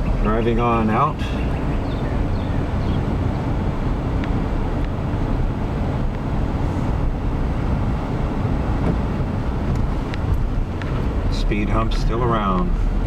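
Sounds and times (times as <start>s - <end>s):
car driving low rumble: 0.0s - 13.0s.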